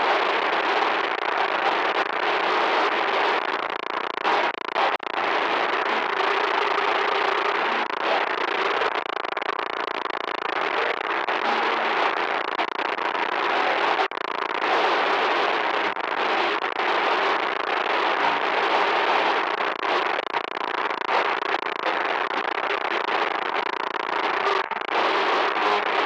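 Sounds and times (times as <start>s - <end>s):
harsh electronic static: 0.0s - 26.0s.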